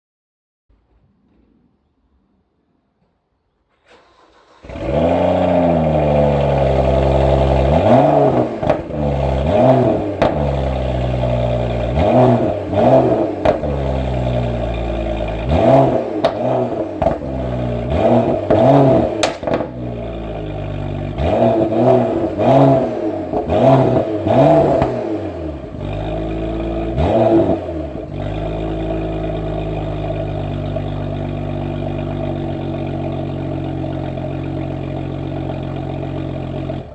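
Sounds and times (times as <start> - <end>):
car engine revving and idling: 3.9 - 36.9.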